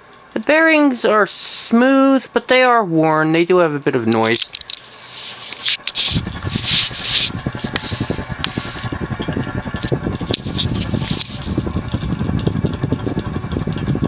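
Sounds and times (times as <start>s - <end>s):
ceiling fan crackling rattle: 0.0s - 14.0s
fan bearing noise: 0.1s - 14.0s.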